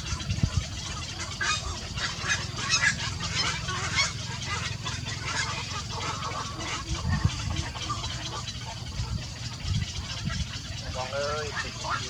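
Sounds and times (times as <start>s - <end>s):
birds giving harsh calls: 0.0s - 12.0s
steady low hum: 0.0s - 12.0s.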